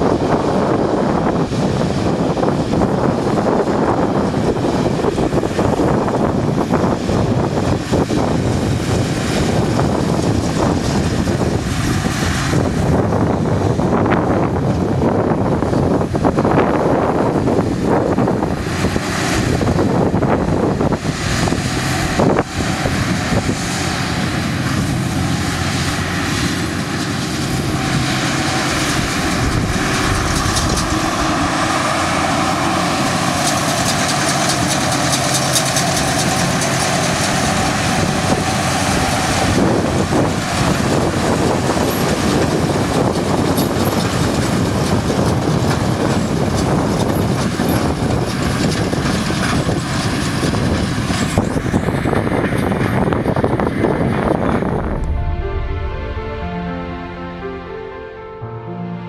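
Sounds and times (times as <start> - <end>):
steady machine whine: 0.0 - 43.9, 51.3 - 58.8
tractor engine under load: 0.0 - 55.1.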